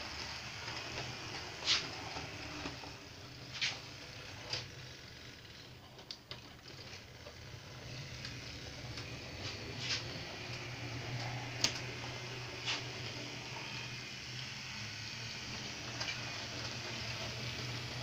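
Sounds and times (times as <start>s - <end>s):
model train motor hum: 0.0s - 18.0s.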